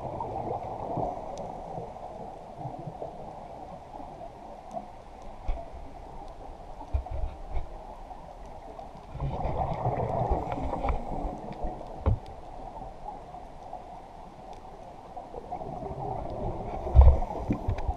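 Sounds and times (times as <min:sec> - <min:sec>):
water sloshing and gurgling: 0:00.0 - 0:17.9.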